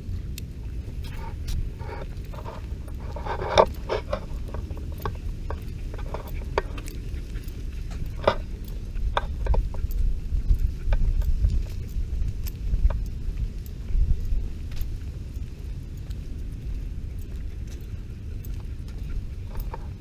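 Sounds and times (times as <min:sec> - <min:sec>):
scattered clicks: 0:00.0 - 0:20.0
camera handling rumble: 0:00.3 - 0:17.8.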